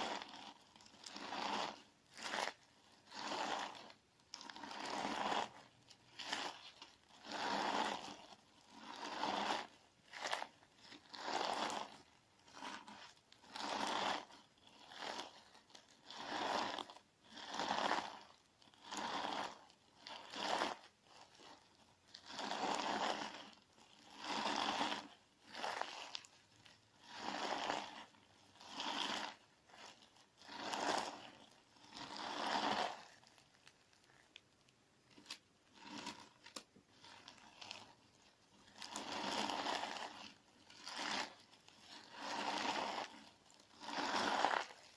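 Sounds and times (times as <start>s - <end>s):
crunchy slime squishing: 0.0s - 44.9s.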